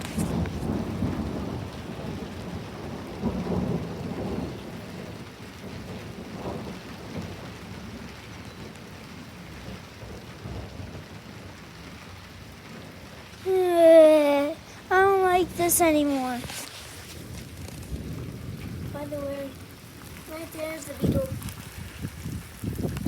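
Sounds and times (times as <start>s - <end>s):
rolling thunder: 0.0s - 13.5s, 14.6s - 23.0s
heavy rain: 0.0s - 23.0s.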